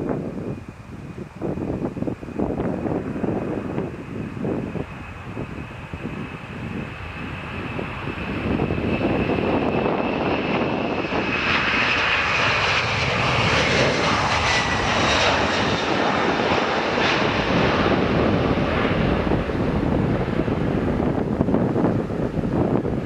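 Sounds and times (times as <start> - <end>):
jet engines whining as plane passes: 0.0 - 23.0.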